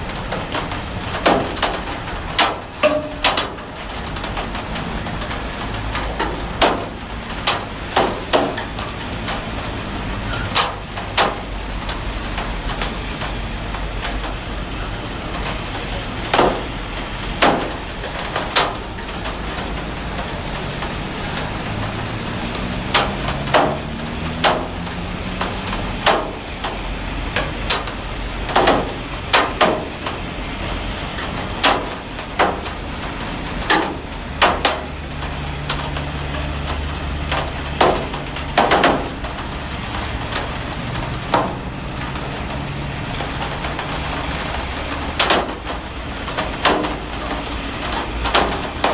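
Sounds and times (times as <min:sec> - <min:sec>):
heavy rain: 0:00.0 - 0:48.9
sharp knocks of drips: 0:00.1 - 0:14.4, 0:17.3 - 0:30.2, 0:31.2 - 0:48.9.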